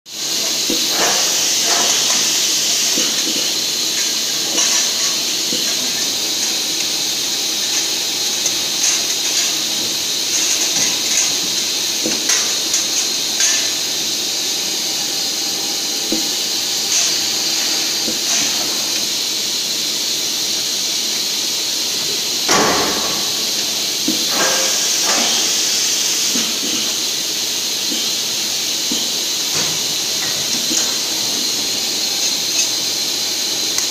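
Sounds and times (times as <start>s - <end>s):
steady hiss of air: 0.1s - 33.9s.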